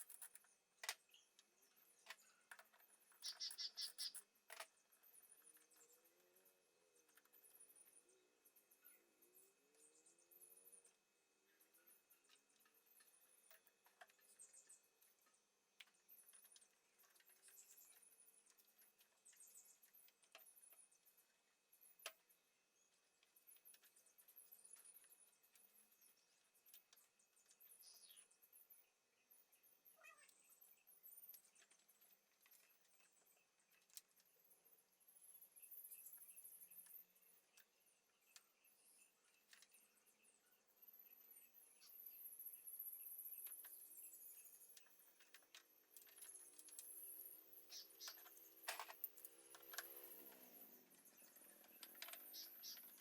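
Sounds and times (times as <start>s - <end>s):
faint high-pitched chirps: 0.0s - 53.0s.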